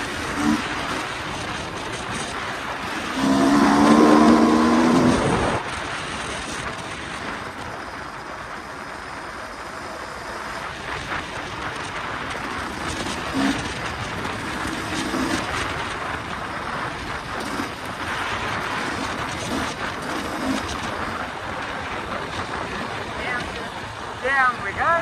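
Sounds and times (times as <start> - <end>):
dirt bike engine running: 0.0 - 25.0
wind noise on microphone: 0.0 - 25.0.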